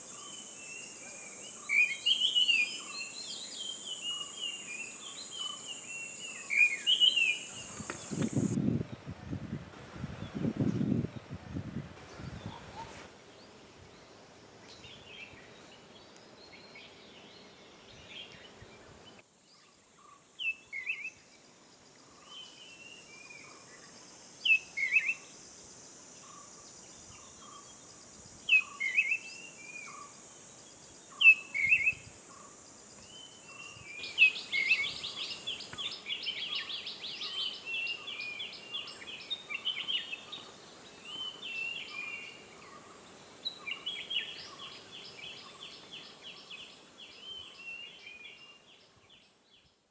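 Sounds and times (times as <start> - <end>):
steady high hiss: 0.0 - 49.9.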